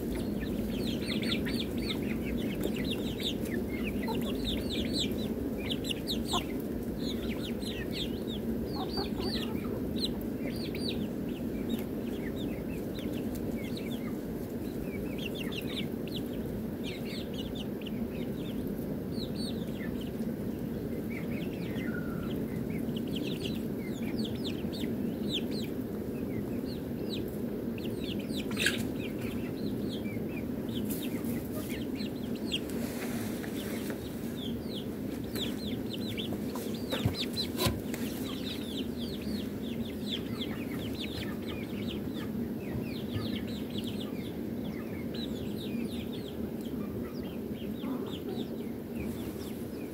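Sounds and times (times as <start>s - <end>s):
chickens clucking: 0.0s - 49.9s
low background noise: 0.0s - 49.9s.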